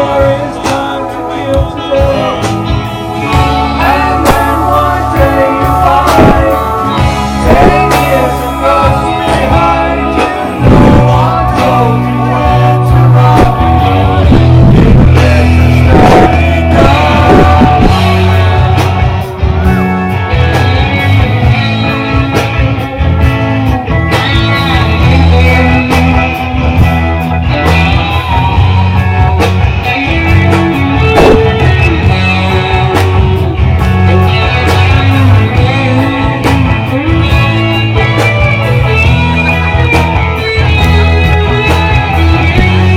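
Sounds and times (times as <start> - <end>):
loud bass line: 0.0 - 42.9
rock music with guitar: 0.0 - 42.9.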